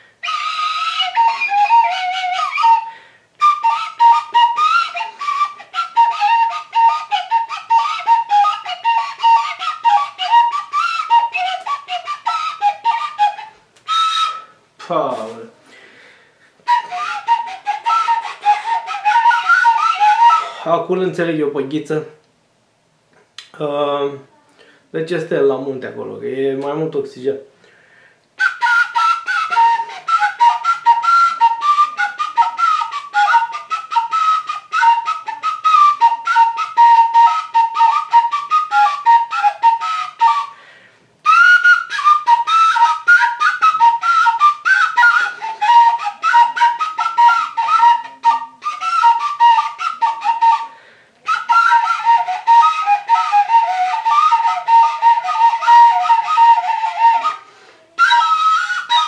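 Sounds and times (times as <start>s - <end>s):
wooden whistle playing lively tune: 0.0s - 15.4s, 16.6s - 20.7s, 28.4s - 59.0s.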